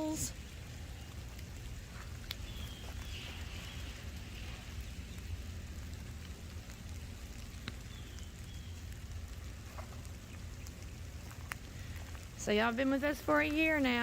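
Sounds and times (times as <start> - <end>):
light rain falling: 0.0 - 14.0
drips ticking: 0.4 - 14.0.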